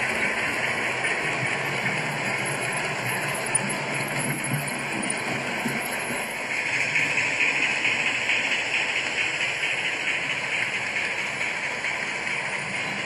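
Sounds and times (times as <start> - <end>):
model train rushing hiss: 0.0 - 13.0.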